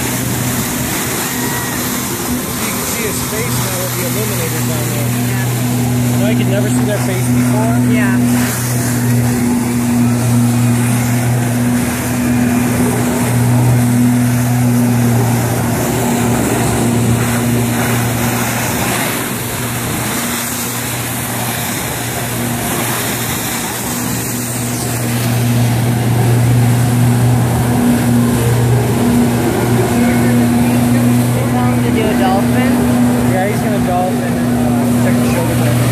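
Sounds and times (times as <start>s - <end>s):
water jets rushing: 0.0s - 35.9s
watercraft engine humming: 0.0s - 35.9s.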